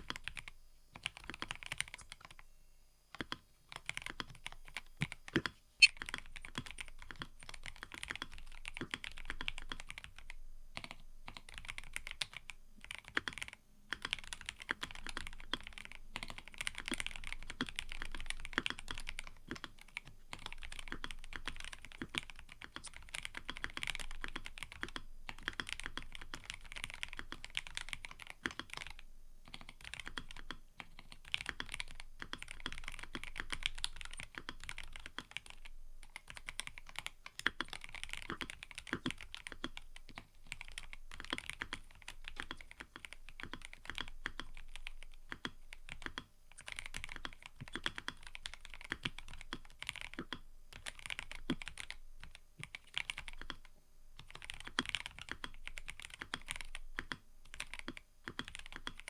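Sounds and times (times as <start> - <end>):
mechanical keyboard typing: 0.0 - 2.4, 3.1 - 59.0.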